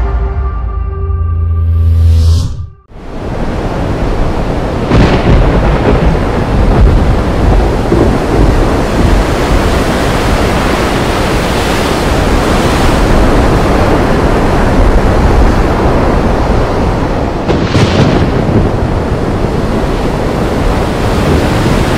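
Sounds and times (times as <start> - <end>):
river rushing with low rumble: 2.9 - 21.9.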